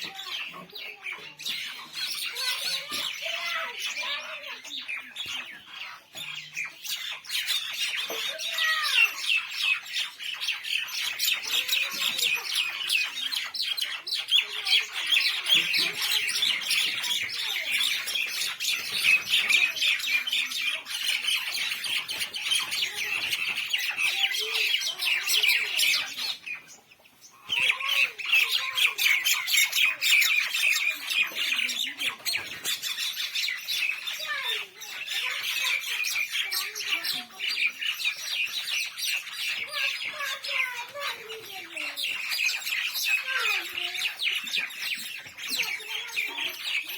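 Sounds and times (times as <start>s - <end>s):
mynah birds squawking: 0.0s - 46.9s.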